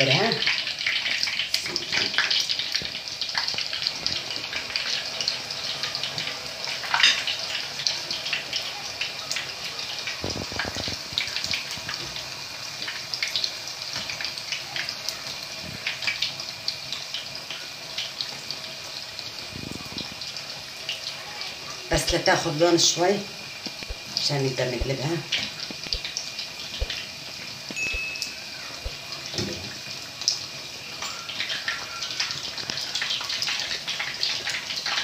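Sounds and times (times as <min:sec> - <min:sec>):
batter frying in hot oil: 0:00.0 - 0:35.0.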